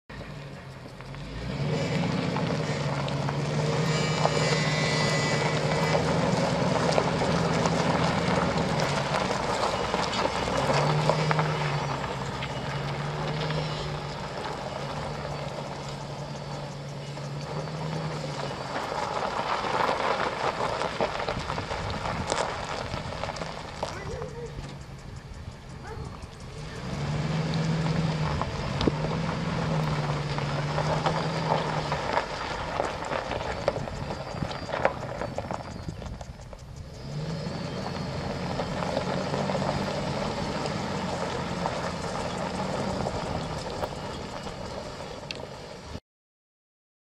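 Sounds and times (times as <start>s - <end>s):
truck engine droning: 0.0s - 46.0s
tyres on gravel: 0.1s - 46.0s.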